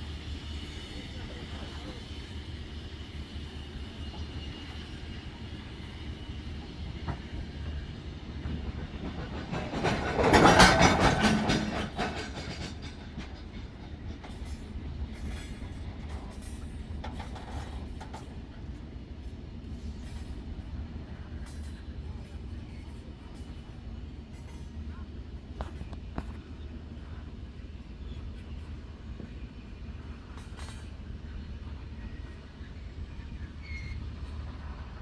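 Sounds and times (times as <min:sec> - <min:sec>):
freight train rumbling on rails: 0:00.0 - 0:35.0
train clicks and rattles: 0:00.0 - 0:35.0.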